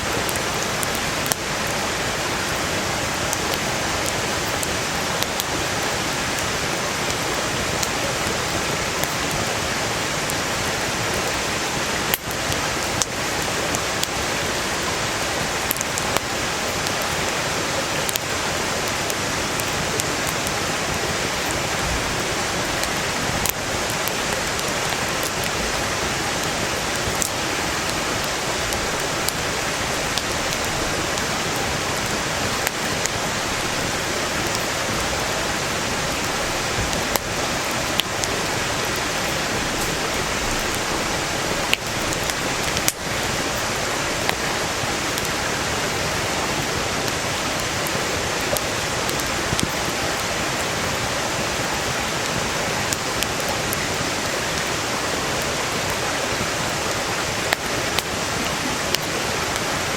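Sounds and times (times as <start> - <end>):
campfire crackling and popping: 0.0 - 59.9
stream rushing: 0.0 - 59.9.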